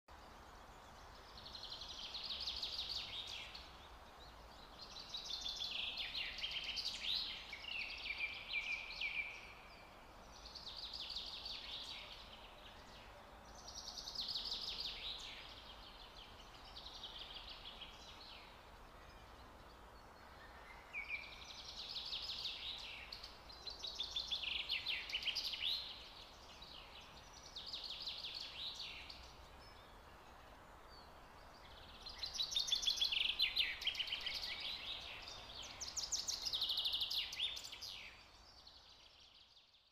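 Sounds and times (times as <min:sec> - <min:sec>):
faint background hiss: 0:00.1 - 0:39.9.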